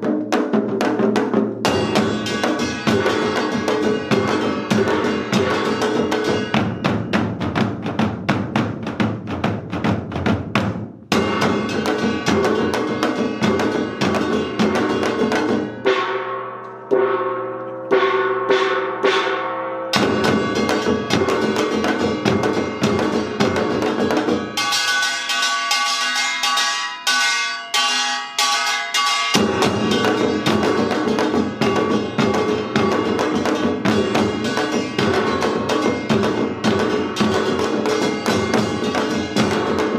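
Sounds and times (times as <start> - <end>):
drums playing fast rhythms: 0.0 - 16.3, 18.0 - 39.9.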